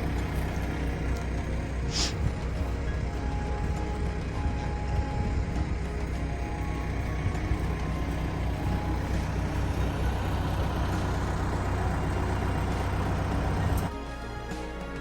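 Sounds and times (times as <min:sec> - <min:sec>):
background music: 0:00.0 - 0:15.0
tractor engine running: 0:00.0 - 0:15.0.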